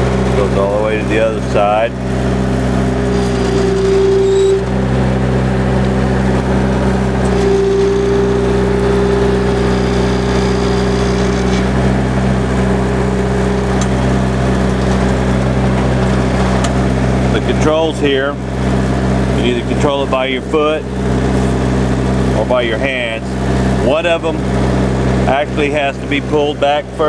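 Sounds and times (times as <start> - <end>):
diesel engine running: 0.0 - 27.0
hydraulic whine: 0.0 - 27.0.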